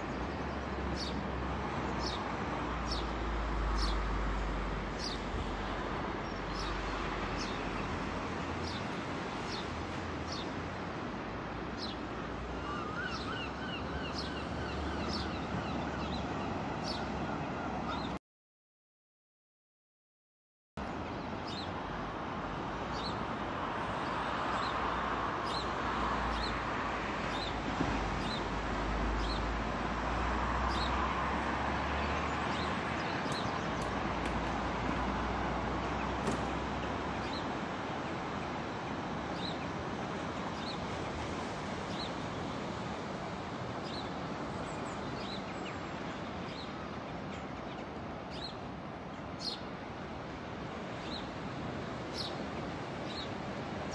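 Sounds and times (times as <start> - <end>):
surf of breaking waves: 0.0 - 18.2, 20.8 - 53.9.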